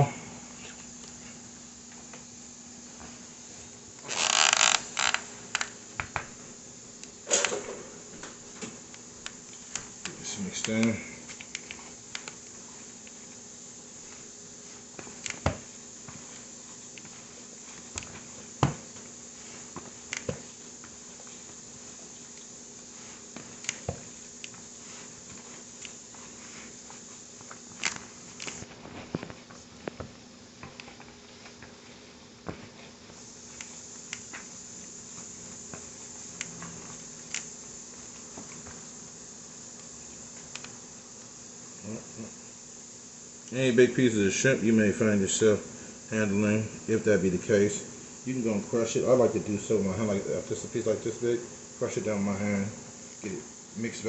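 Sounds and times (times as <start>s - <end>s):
background hum and hiss: 0.0s - 54.0s.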